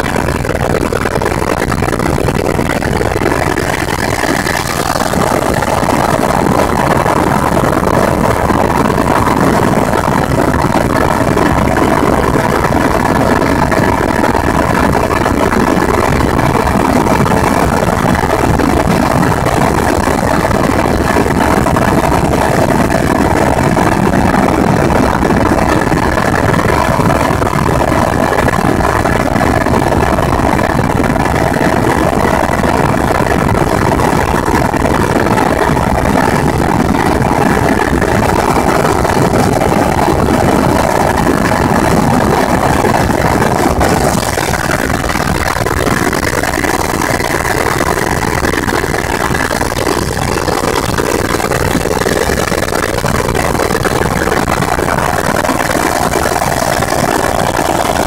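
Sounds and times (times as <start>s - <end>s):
faint steady whine: 0.0s - 58.0s
helicopter engine and rotor drone: 0.0s - 58.0s.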